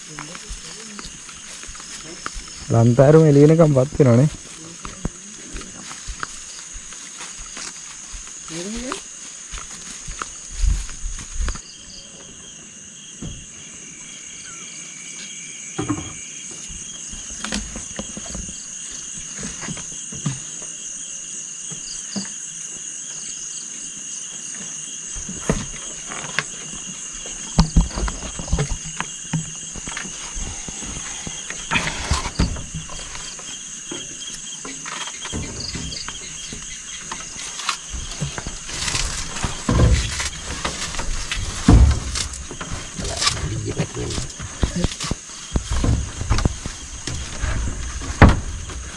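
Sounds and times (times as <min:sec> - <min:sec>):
people climbing wooden ladder: 0:00.0 - 0:11.6, 0:15.8 - 0:20.6, 0:25.2 - 0:48.9
night insects buzzing: 0:00.0 - 0:48.9.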